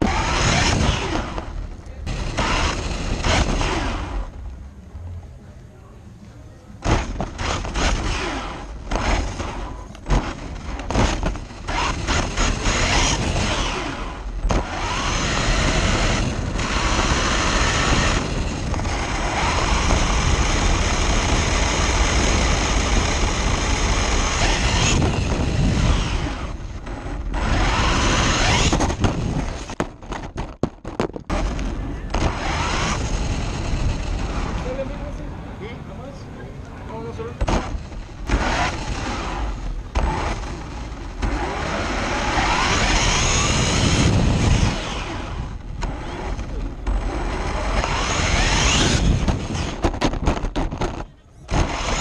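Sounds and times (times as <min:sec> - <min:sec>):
electric motor and gear whine: 0:00.0 - 0:52.0
tyre and road noise: 0:00.0 - 0:52.0.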